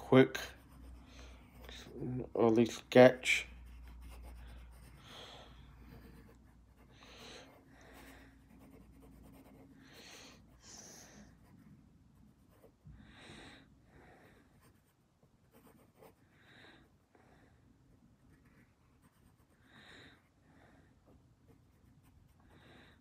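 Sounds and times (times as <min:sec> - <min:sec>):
pencil scratching on paper: 0:00.0 - 0:12.9, 0:14.4 - 0:16.3, 0:18.2 - 0:20.3, 0:21.0 - 0:22.8.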